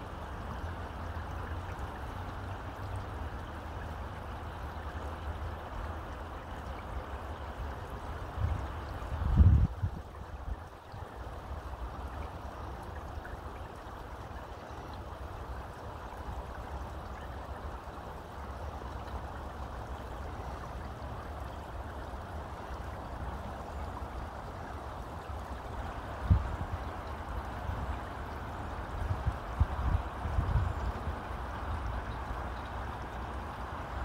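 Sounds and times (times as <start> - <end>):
river water flowing over rocks: 0.0 - 34.0.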